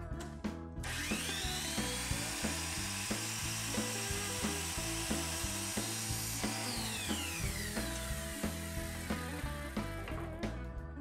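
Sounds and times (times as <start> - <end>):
background music with steady beat: 0.0 - 11.0
miter saw whine: 0.9 - 10.0.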